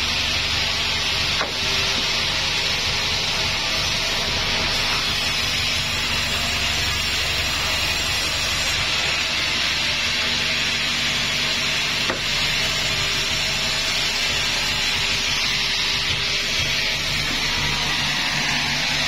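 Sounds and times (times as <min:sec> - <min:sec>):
band saw blade sawing log: 0:00.0 - 0:19.0
low motor hum: 0:00.0 - 0:19.0.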